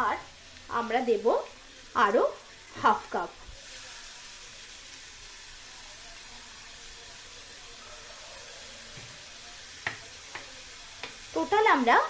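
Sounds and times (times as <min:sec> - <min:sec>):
faint sizzle of frying: 0:00.0 - 0:12.0.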